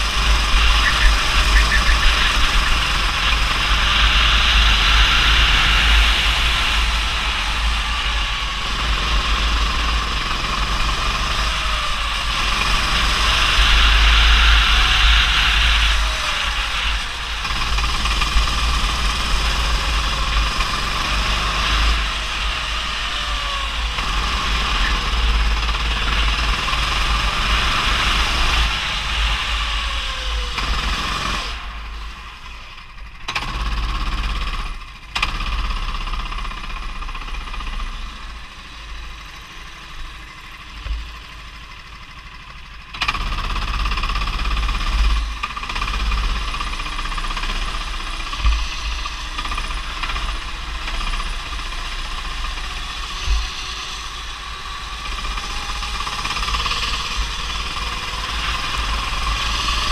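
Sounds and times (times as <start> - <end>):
go-kart engine buzzing: 0.0 - 59.9
wind and vibration rumble: 0.0 - 59.9.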